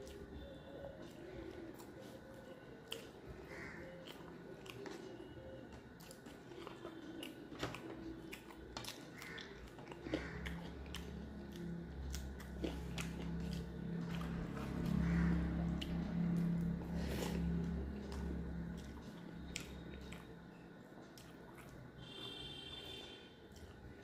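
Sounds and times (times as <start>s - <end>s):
chewing and biting: 0.0s - 22.2s
low hum: 0.0s - 24.0s.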